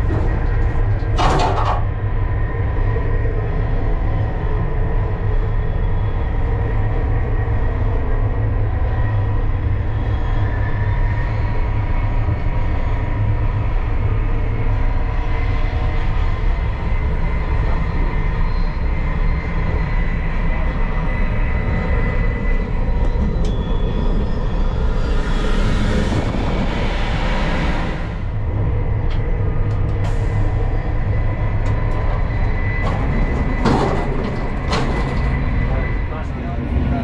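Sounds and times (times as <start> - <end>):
thin steady whine: 0.0 - 37.0
train low rumble: 0.0 - 37.0.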